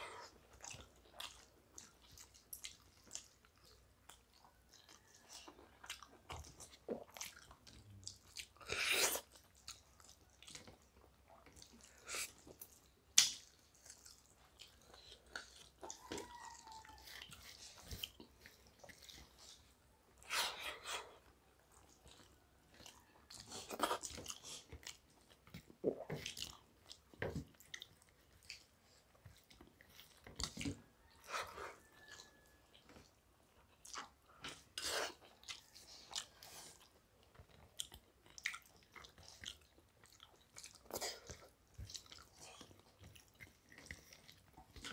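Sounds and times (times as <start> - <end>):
chewing: 0.0 - 44.9.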